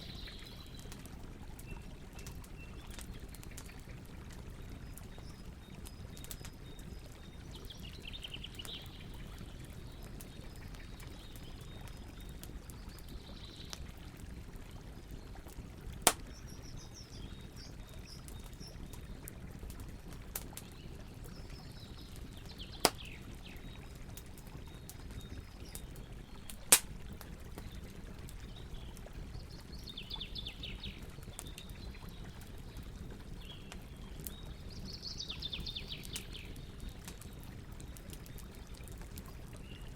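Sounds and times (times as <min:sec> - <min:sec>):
campfire hissing and crackling: 0:00.0 - 0:39.9.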